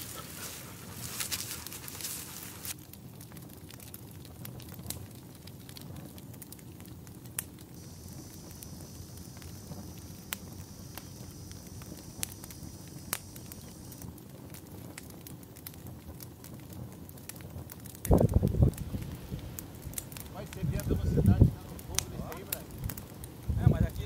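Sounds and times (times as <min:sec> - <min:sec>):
burning brush crackling: 0:00.0 - 0:24.0.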